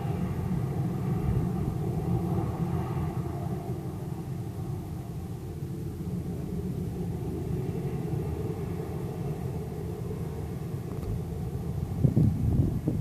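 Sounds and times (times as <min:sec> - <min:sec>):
distant turboprop engines rumbling: 0:00.0 - 0:13.0.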